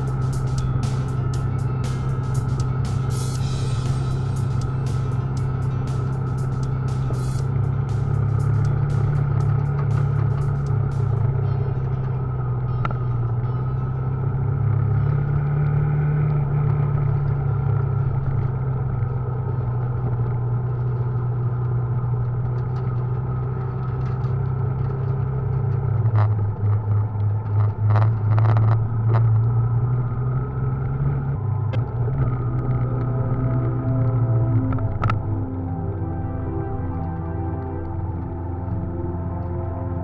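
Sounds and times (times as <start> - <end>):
motorcycle engine running: 0.0 - 36.0
road and wind noise: 0.0 - 40.0.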